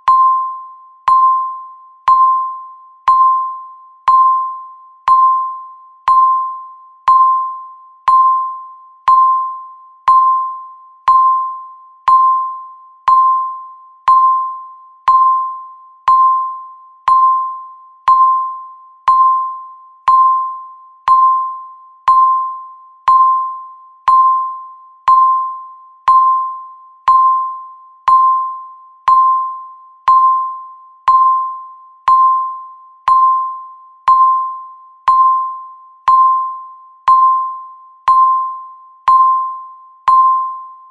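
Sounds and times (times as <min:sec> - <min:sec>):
timer beeping: 0:00.0 - 0:40.9.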